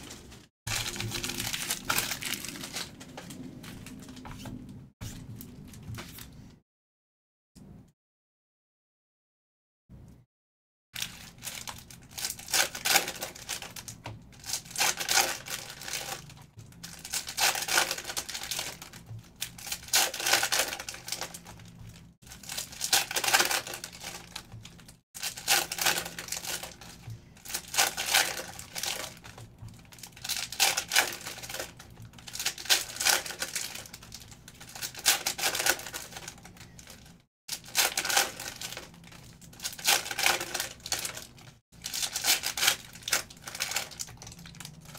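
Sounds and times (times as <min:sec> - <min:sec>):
foil wrappers crinkling and tearing: 0:00.0 - 0:04.6, 0:11.0 - 0:44.9.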